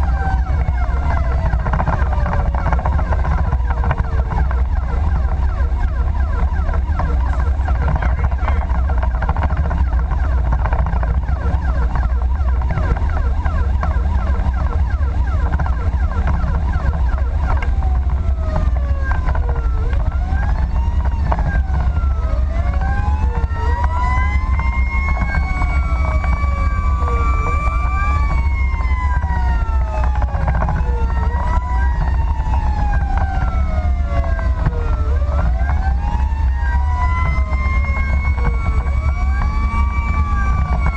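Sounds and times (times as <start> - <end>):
fire engine siren: 0.0 - 40.9
road noise: 0.0 - 40.9
truck engine rumble: 0.0 - 40.9.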